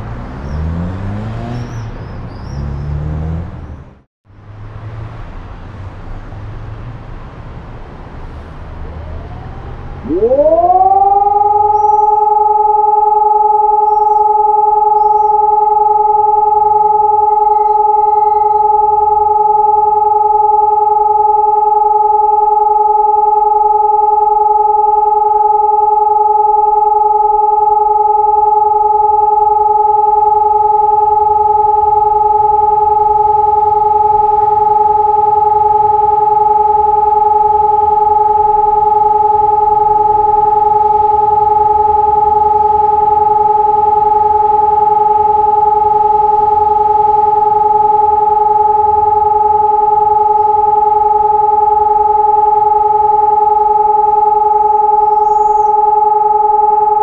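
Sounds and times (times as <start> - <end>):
electronic warning siren steady tone: 0.0 - 3.8, 8.2 - 57.0.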